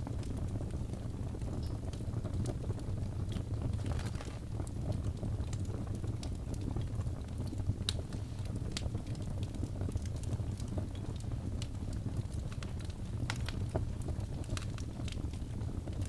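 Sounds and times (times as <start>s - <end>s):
fire crackling with pops: 0.0s - 16.0s.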